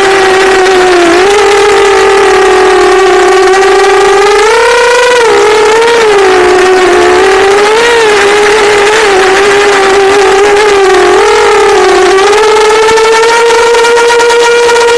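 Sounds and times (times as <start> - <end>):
quadcopter motors whining: 0.0 - 14.9.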